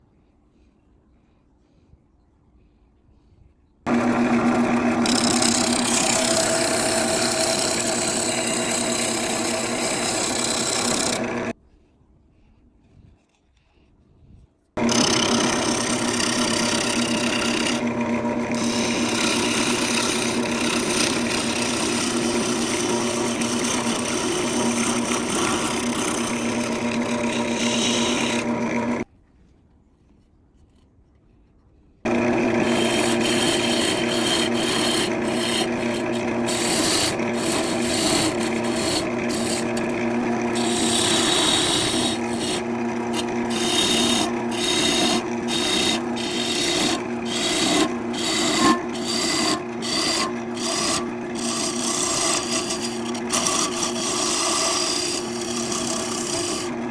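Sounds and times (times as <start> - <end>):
gouge scraping spinning wood: 3.9 - 11.6, 14.8 - 29.1, 32.1 - 56.9
wood lathe humming: 3.9 - 11.6, 14.8 - 29.1, 32.1 - 56.9.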